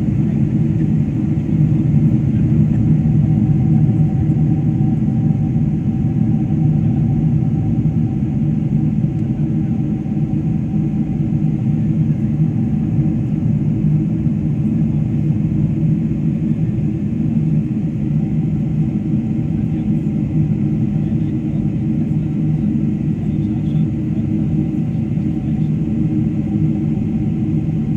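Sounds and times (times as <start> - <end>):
aircraft cabin rumble: 0.0 - 27.9.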